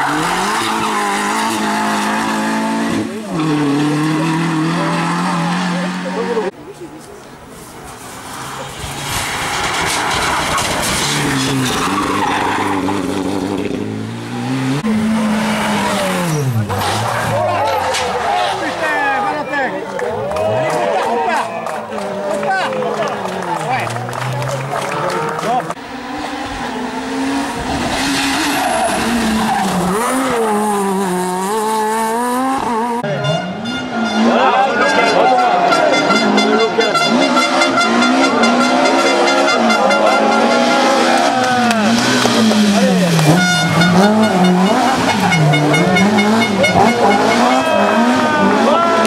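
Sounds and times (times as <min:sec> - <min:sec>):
rally car engine revving: 0:00.0 - 0:06.8, 0:07.6 - 0:49.0.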